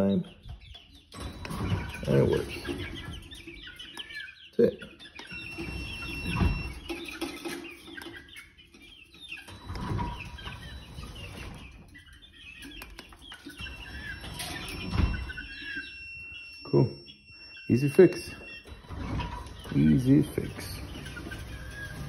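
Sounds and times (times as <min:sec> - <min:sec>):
chickens clucking and chirping: 0:00.0 - 0:22.0.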